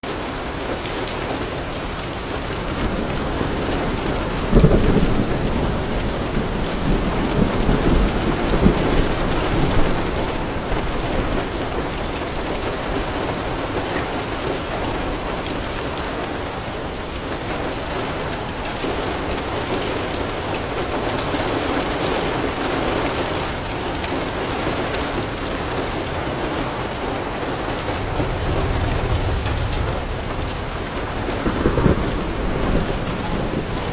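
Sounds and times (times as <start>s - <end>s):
heavy rain on leaves and roof: 0.0s - 33.9s
thunder rumbling: 0.4s - 33.9s.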